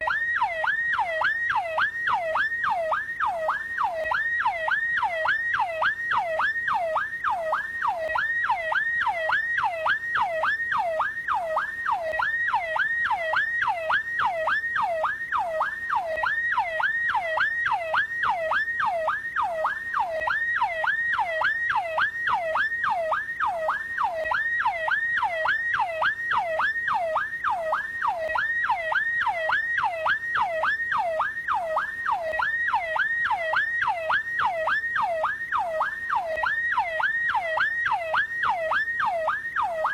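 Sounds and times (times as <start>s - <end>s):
police siren fast yelp: 0.0s - 39.9s.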